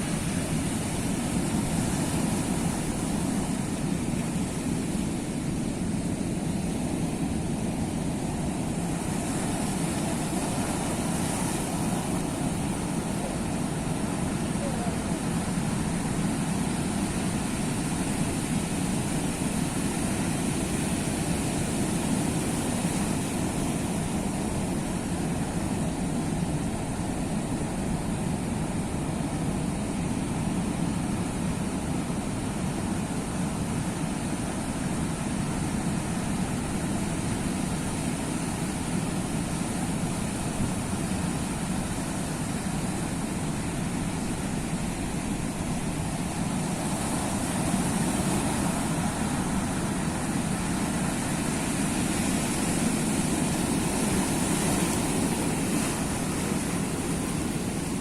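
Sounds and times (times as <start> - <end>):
sea surf washing: 0.0 - 58.0.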